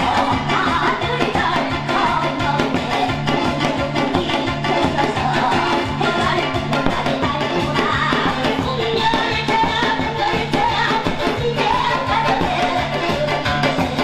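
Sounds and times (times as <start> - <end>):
backing music with steady beat: 0.0 - 14.0.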